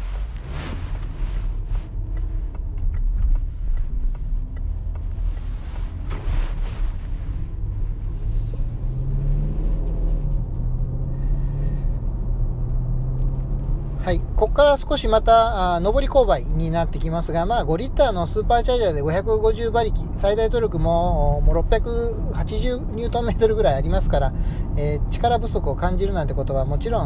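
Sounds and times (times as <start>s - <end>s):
car engine rumble: 0.0s - 27.0s
road noise inside car: 0.0s - 27.0s.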